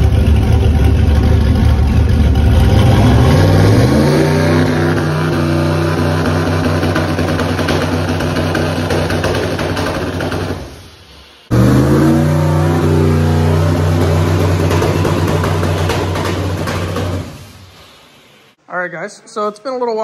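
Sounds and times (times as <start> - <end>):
car engine running: 0.0 - 10.8, 11.5 - 17.7.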